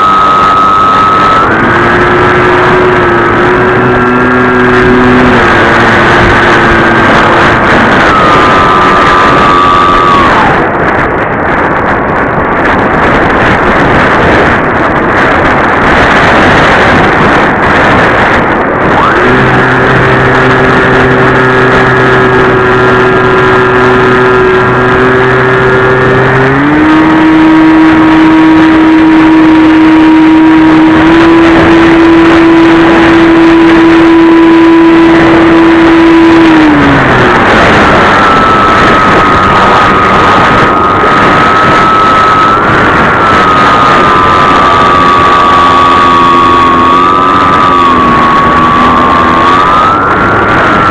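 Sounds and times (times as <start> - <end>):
electric propeller motor whine: 0.0 - 11.5, 15.9 - 50.9
higher steady whine: 0.0 - 50.9
wind rush: 0.0 - 50.9.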